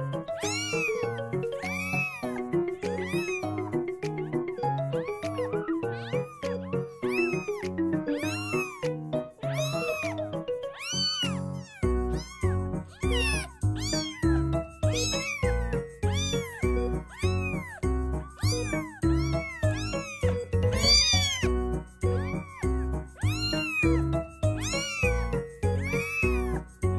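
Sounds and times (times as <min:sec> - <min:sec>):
kitten meowing: 0:00.0 - 0:26.7.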